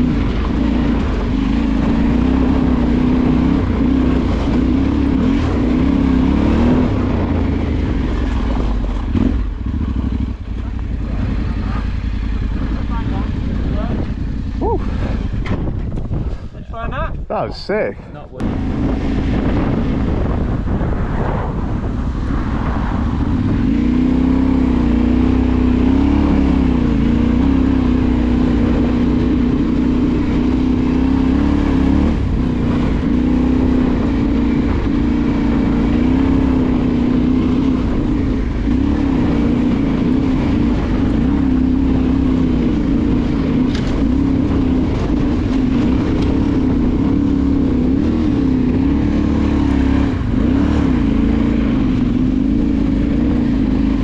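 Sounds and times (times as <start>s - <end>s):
motorcycle engine revving: 0.0s - 16.6s, 18.4s - 54.0s.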